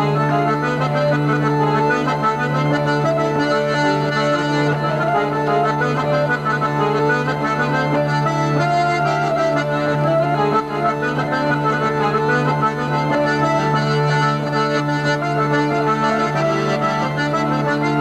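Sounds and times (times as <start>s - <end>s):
folk dance tune: 0.0s - 18.0s.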